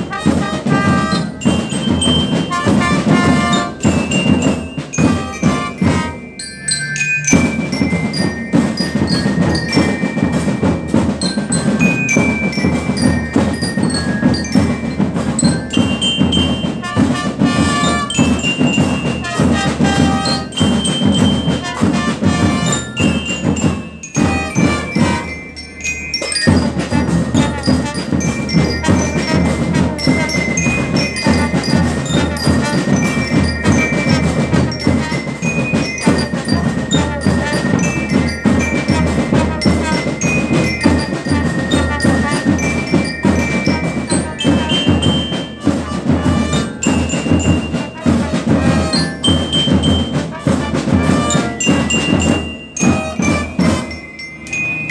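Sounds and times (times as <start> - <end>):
bell lyres playing melody: 0.0 - 54.9
brass instruments: 0.0 - 54.9
marching drums: 0.0 - 54.9.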